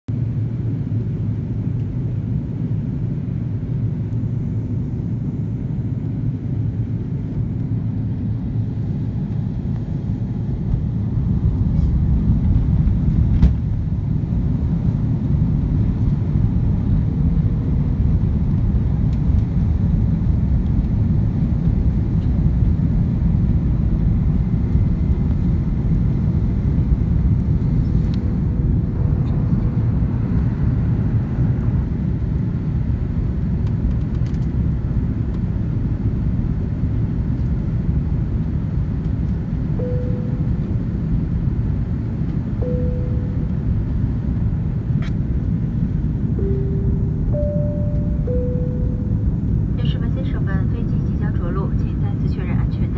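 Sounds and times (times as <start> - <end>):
aircraft cabin engine rumble: 0.1 - 52.9.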